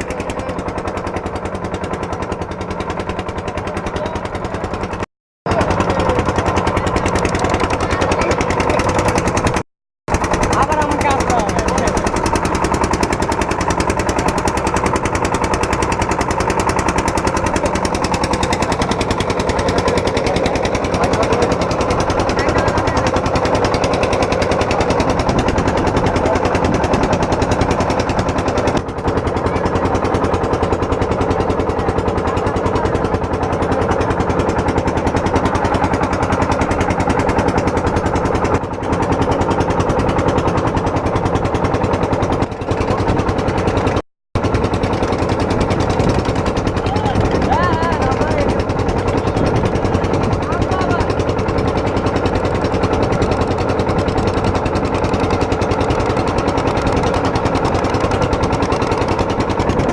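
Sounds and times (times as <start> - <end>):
boat engine chugging: 0.0 - 59.9.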